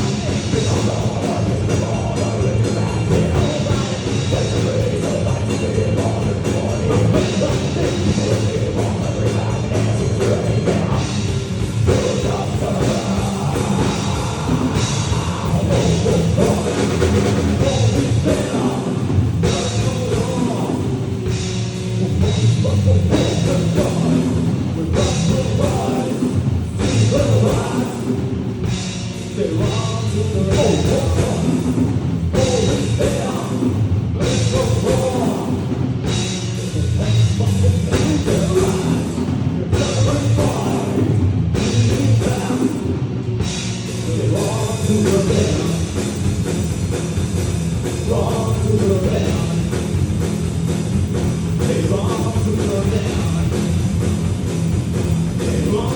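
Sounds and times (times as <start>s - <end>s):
drum kit: 0.0s - 55.9s
rock band playing live: 0.0s - 55.9s.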